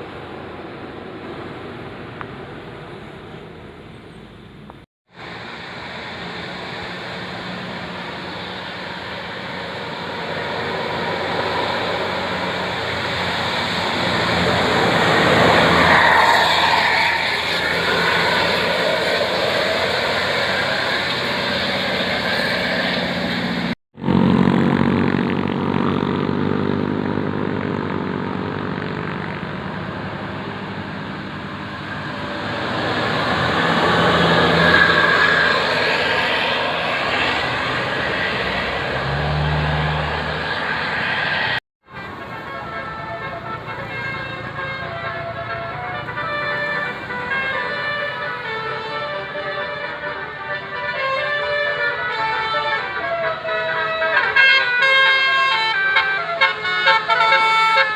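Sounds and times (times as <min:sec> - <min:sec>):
buses passing on road: 0:00.0 - 0:57.9.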